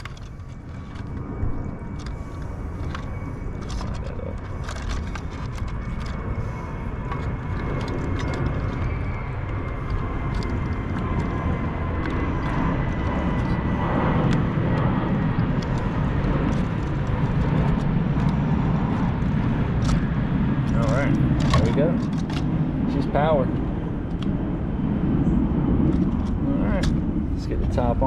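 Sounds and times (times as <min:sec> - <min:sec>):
low rumbling noise: 0:00.0 - 0:28.0.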